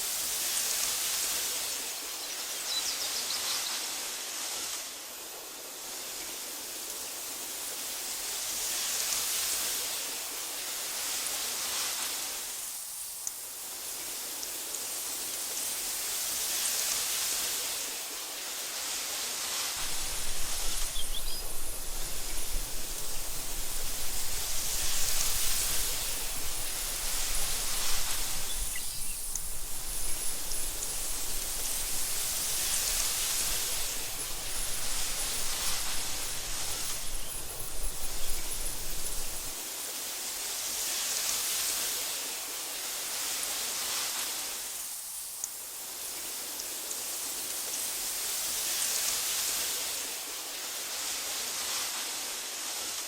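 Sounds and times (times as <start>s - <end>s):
wind through grass: 0.0s - 53.0s.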